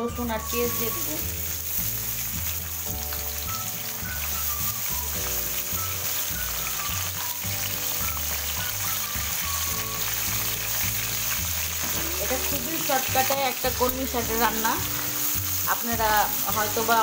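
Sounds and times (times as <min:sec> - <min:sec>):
background music: 0:00.0 - 0:17.0
onion sizzling in hot oil: 0:00.0 - 0:17.0.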